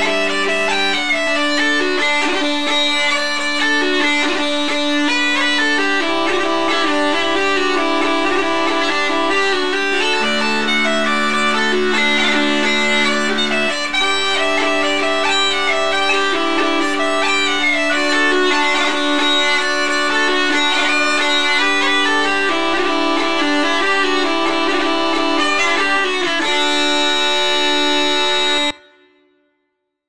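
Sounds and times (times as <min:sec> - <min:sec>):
uilleann pipes playing a tune: 0:00.0 - 0:29.2.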